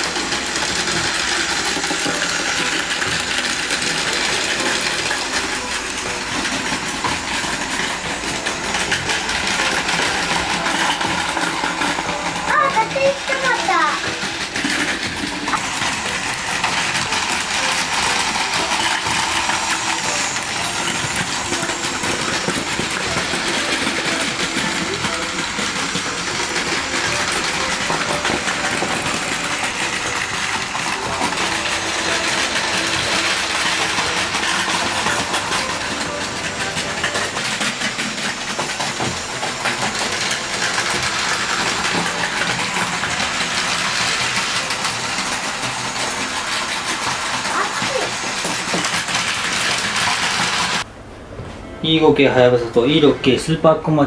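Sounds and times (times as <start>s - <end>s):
toy train motors whirring: 0.0s - 50.9s
wheels rattling on plastic track: 0.0s - 50.9s.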